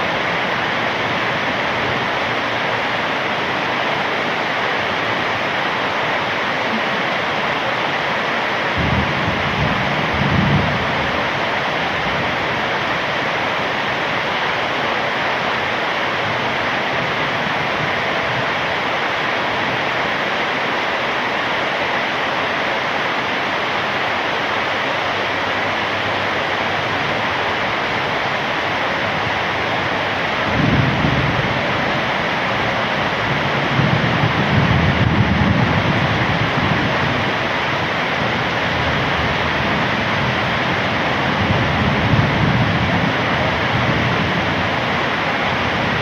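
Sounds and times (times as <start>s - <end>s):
heavy rain: 0.0s - 46.0s.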